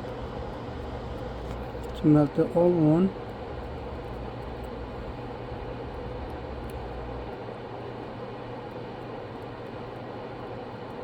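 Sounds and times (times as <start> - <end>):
electric blower fan whooshing: 0.0 - 10.6.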